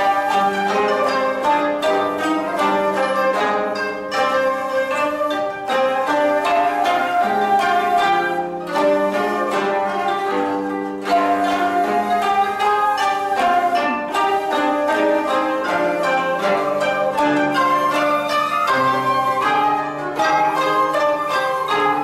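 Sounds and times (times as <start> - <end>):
held flute tones: 0.0 - 22.0
plucked koto: 0.0 - 22.0.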